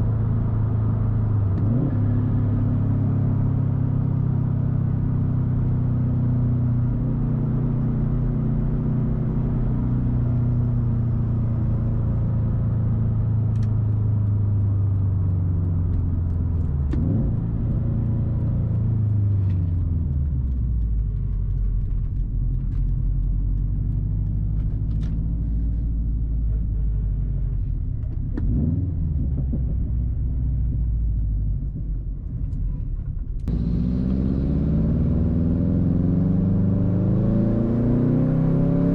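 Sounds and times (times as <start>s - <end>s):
car engine rumble: 0.0s - 38.9s.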